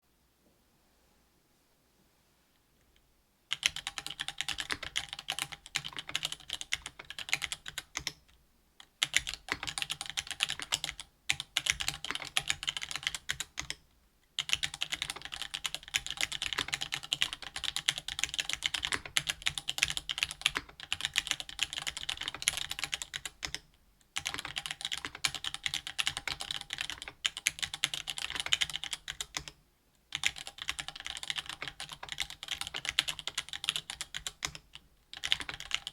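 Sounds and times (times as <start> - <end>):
mechanical keyboard typing: 3.5 - 8.3, 9.0 - 13.8, 14.4 - 29.5, 30.1 - 35.9.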